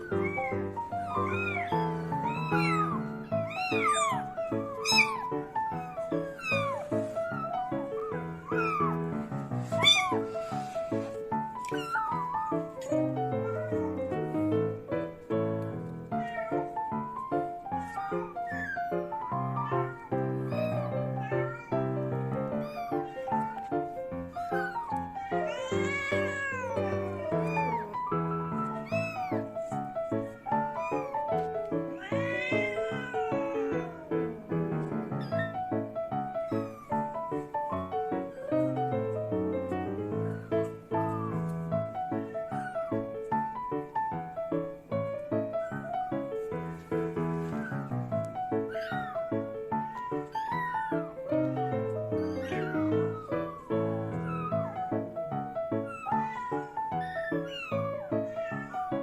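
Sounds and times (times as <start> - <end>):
kittens mewing: 0.0 - 44.0, 45.2 - 59.0.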